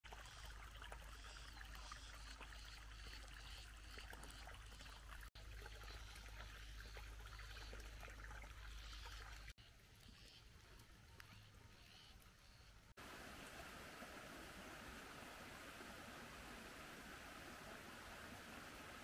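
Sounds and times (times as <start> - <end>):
faint trickling water: 0.0 - 19.0.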